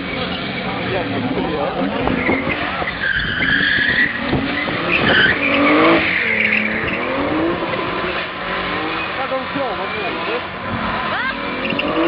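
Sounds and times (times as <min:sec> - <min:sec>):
car engine revving: 0:00.0 - 0:12.0
tyres squealing on tarmac: 0:00.0 - 0:12.0.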